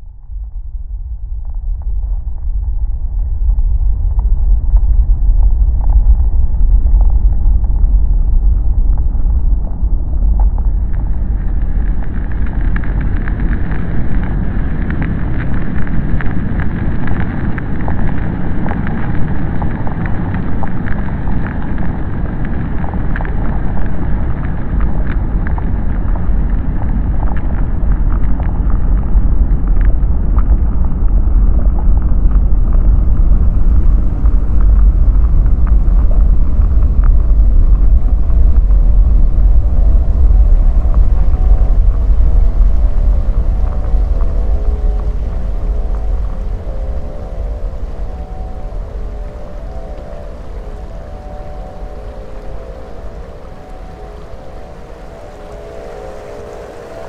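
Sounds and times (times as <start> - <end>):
deep rumbling and rushing noise: 0.0 - 57.0
faint crackles: 0.0 - 57.0.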